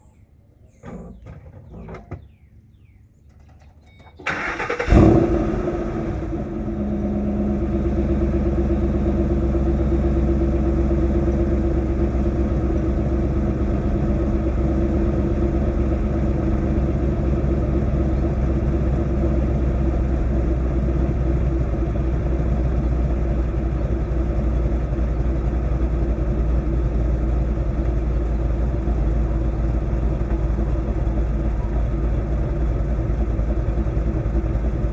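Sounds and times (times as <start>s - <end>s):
car engine starting and idling: 0.6s - 34.9s.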